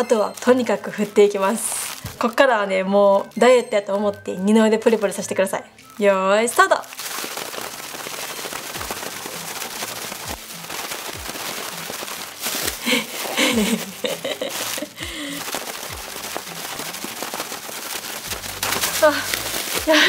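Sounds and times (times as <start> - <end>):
plastic bag crinkling rattle: 0.0 - 20.0.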